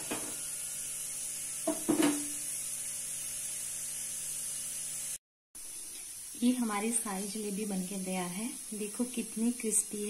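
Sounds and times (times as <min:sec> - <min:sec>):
deep-frying sizzle: 0:00.0 - 0:10.0.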